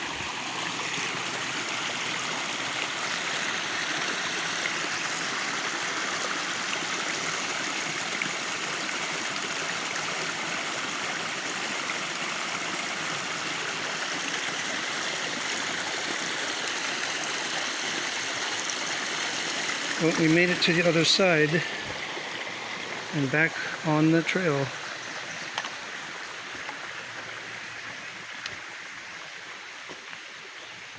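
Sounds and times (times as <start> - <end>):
stream flowing: 0.0 - 30.9.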